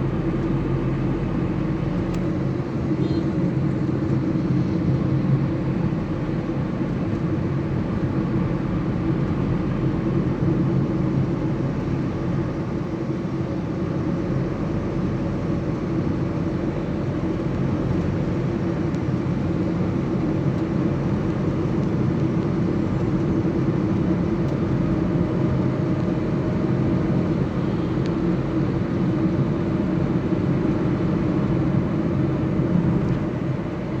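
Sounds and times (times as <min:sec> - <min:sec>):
road and wind noise: 0:00.0 - 0:34.0
vehicle engine drone: 0:00.0 - 0:34.0.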